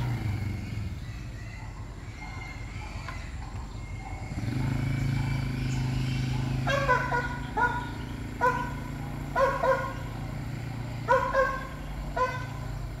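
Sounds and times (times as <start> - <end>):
atv engine humming: 0.0 - 13.0
dog barking: 1.4 - 12.9.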